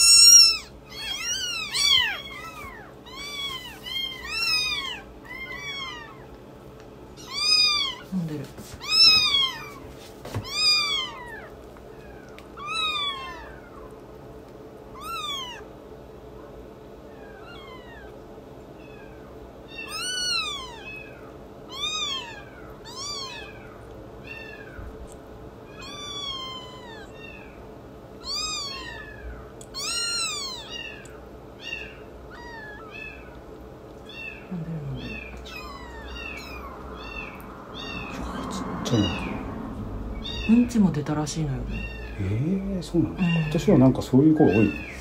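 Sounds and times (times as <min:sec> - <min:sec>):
kitten mewing: 0:00.0 - 0:06.4, 0:07.2 - 0:14.0, 0:14.9 - 0:15.8, 0:17.0 - 0:18.2, 0:18.8 - 0:33.4, 0:34.0 - 0:45.0.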